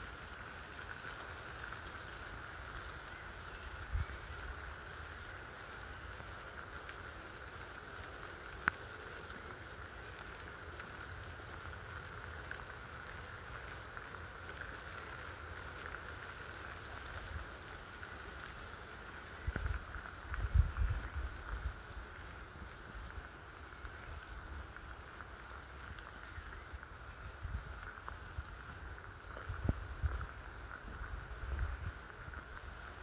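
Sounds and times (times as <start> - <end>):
light rain patter: 0.0 - 33.0.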